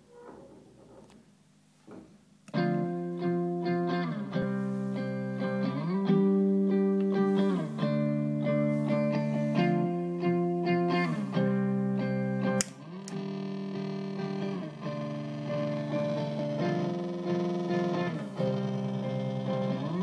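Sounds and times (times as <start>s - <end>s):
electric guitar chords: 2.5s - 20.0s.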